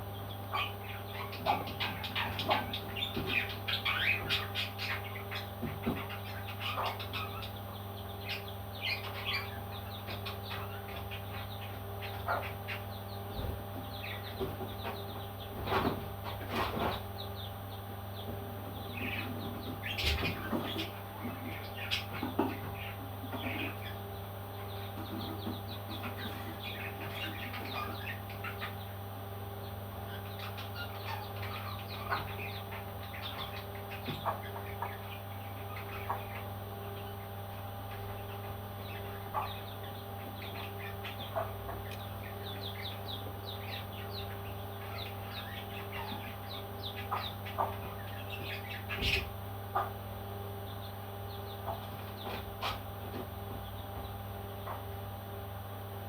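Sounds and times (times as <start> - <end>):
steady low hum: 0.0 - 56.0
baby parrots chirping: 0.5 - 17.5, 18.2 - 24.0, 24.6 - 29.0, 30.0 - 37.2, 37.8 - 49.9, 50.8 - 54.9.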